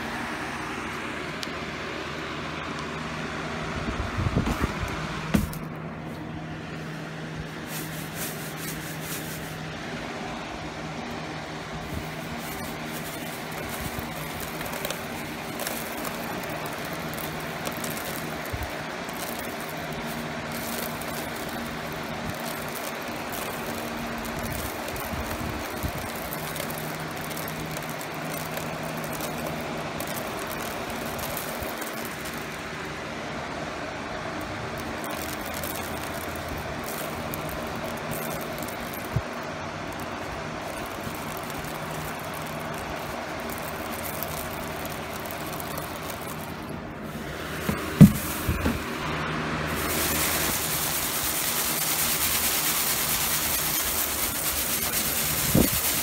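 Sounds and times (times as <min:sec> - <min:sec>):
small motor humming: 0:00.0 - 0:33.0, 0:34.1 - 0:56.0.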